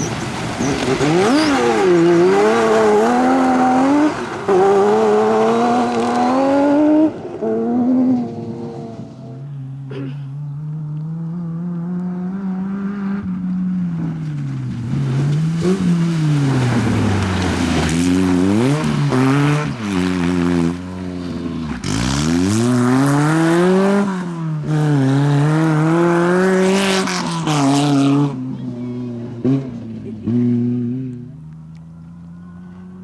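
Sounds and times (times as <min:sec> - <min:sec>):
rally car engine revving hard: 0:00.0 - 0:33.0.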